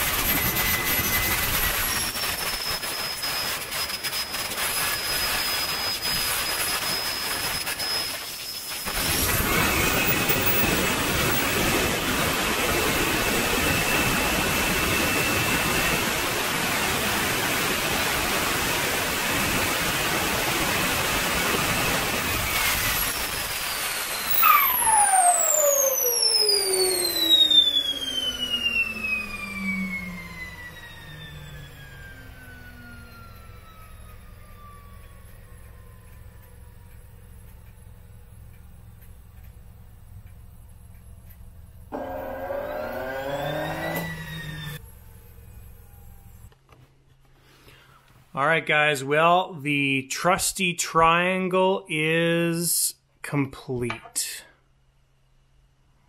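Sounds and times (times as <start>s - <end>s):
model jet turbine roar and whine: 0.0s - 46.8s.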